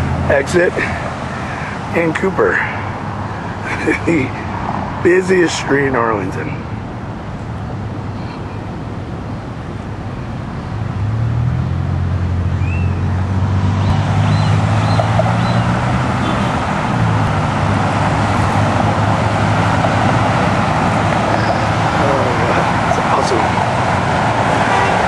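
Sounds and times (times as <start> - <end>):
tyre and road noise: 0.0 - 25.0
vehicle engine humming: 0.0 - 25.0.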